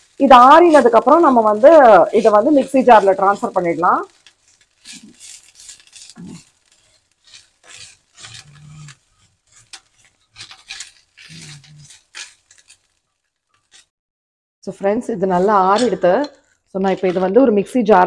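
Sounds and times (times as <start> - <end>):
spoon scraping a steel pan: 0.3 - 13.9, 15.1 - 17.6.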